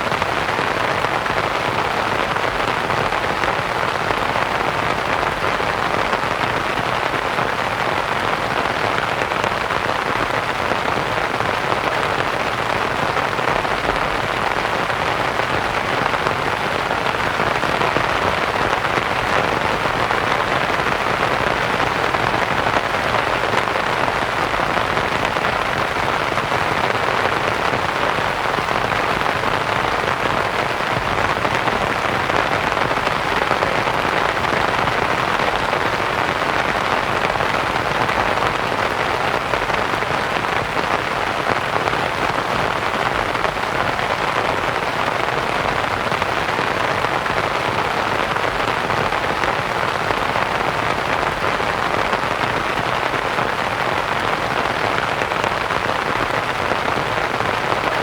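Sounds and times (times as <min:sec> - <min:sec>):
rain pattering on a tent: 0:00.0 - 0:58.0.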